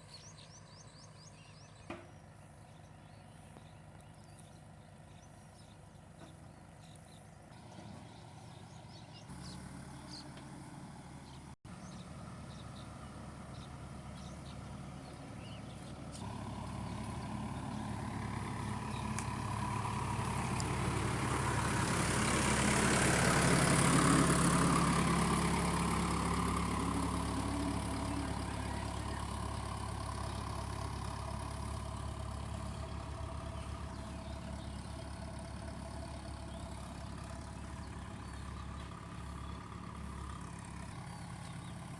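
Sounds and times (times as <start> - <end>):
heavy diesel machinery engine: 0.0 - 41.9.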